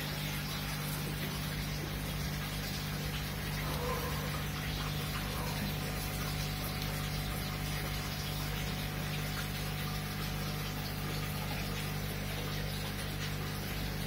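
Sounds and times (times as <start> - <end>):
aquarium pump hum: 0.0 - 14.0.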